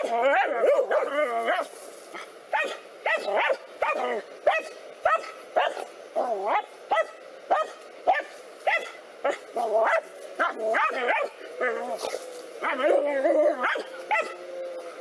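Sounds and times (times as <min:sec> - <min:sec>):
dog barking: 0:00.0 - 0:14.4.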